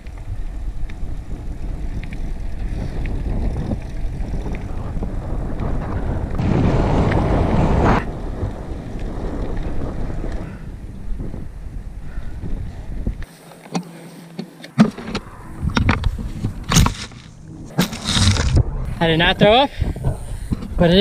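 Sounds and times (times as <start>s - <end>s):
wind rumbling on microphone: 0.0s - 13.3s, 14.9s - 21.0s.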